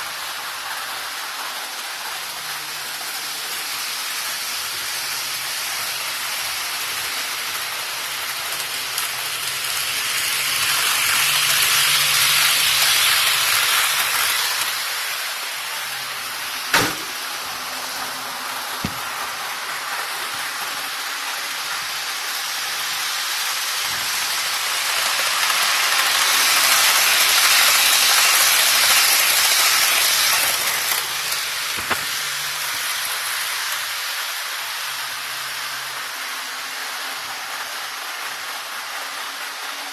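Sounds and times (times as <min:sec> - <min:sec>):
model train running on track: 0:00.0 - 0:39.9.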